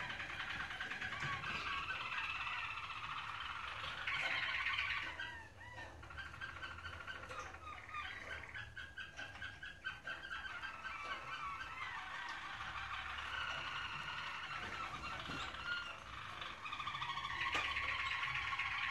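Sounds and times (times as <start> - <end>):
canaries singing trills: 0.0 - 18.9.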